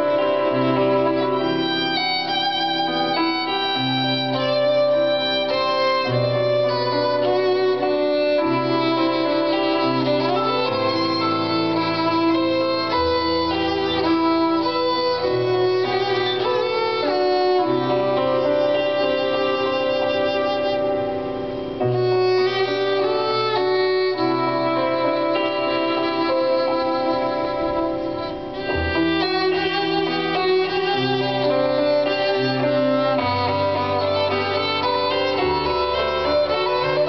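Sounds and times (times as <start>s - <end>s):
violin melody: 0.0s - 37.0s.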